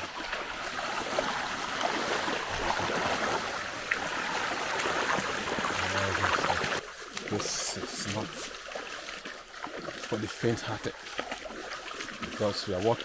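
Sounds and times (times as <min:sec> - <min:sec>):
stream running and splashing: 0:00.0 - 0:13.0
wading over stones: 0:00.0 - 0:13.0.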